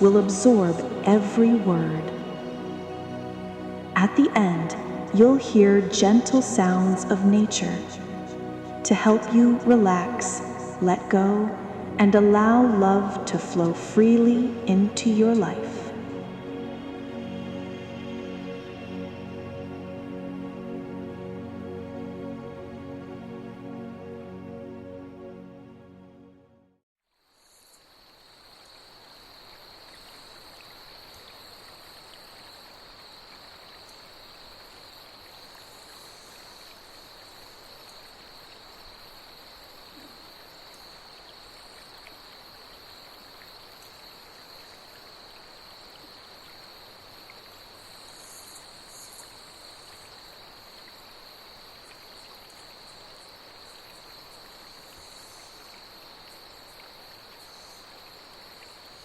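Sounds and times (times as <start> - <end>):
night insects trilling: 0.0 - 21.8, 27.2 - 59.0
flowing water: 0.0 - 24.3, 28.9 - 59.0.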